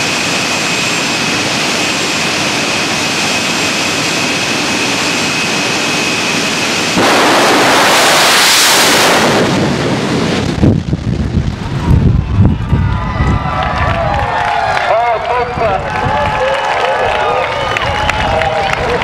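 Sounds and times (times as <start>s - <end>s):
jet engine roaring and whining: 0.0s - 19.0s.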